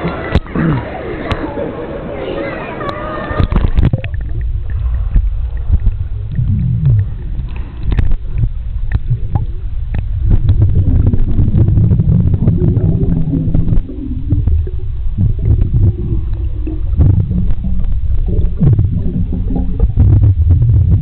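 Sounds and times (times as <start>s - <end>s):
underwater rumble and gurgling: 2.8s - 21.0s
bubble clicks and splashes: 2.9s - 21.0s.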